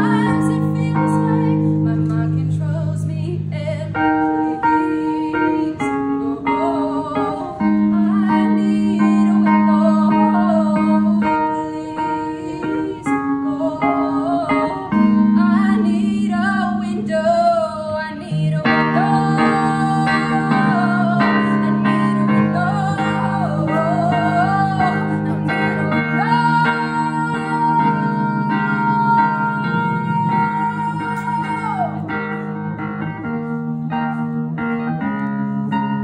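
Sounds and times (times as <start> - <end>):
woman singing: 0.0 - 33.1
electric piano chords: 0.0 - 36.0.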